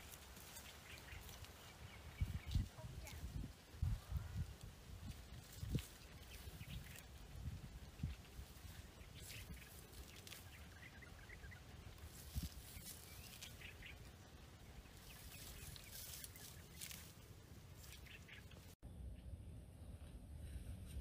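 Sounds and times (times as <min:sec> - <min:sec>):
rustling of dry bushes: 0:00.0 - 0:18.8
faint bird chirps: 0:00.4 - 0:03.4, 0:04.1 - 0:19.9.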